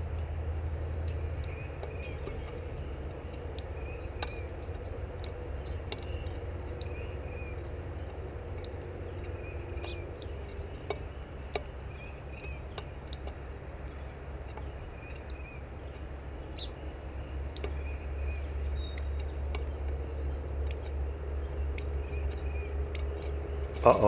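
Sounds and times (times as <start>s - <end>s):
steady low hum: 0.0s - 24.0s
birds pecking and tapping: 0.1s - 16.7s, 17.4s - 24.0s.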